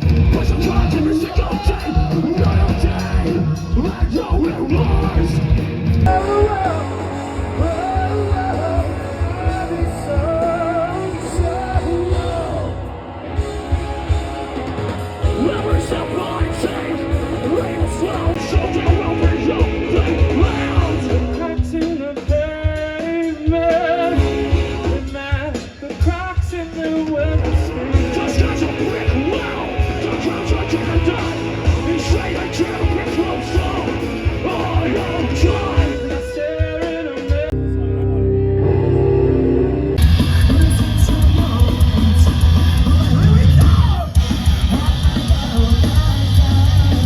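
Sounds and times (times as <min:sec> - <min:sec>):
person singing and yelling: 0:00.0 - 0:38.3, 0:40.2 - 0:47.0
live rock band playing: 0:00.0 - 0:47.0.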